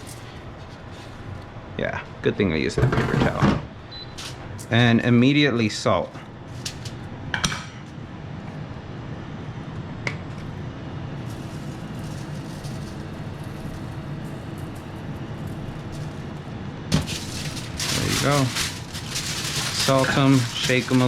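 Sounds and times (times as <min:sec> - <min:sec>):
appliance fan whirring: 0:00.0 - 0:21.0.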